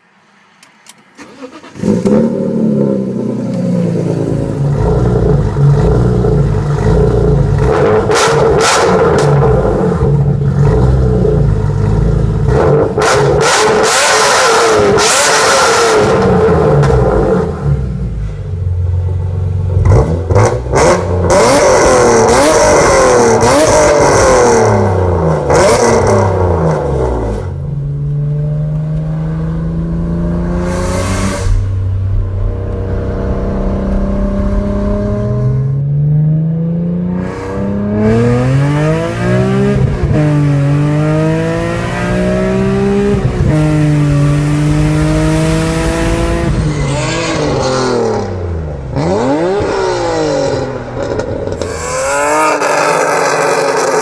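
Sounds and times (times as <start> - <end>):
car engine revving: 1.2 - 54.0.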